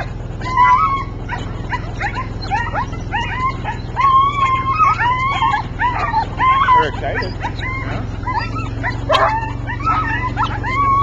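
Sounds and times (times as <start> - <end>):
dog howls: 0.0 - 11.0
dogs yipping and whining: 0.0 - 11.0
steady low hum: 0.0 - 11.0.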